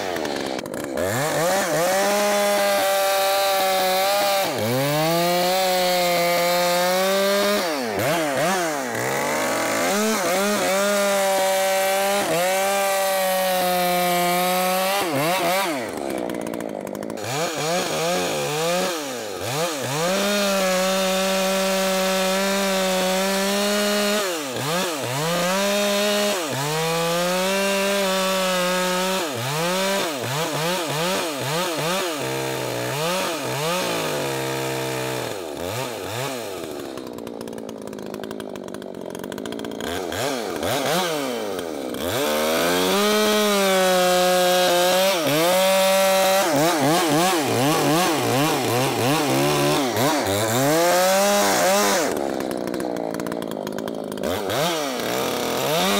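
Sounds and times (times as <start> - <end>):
chainsaw cutting logs: 0.0 - 55.9.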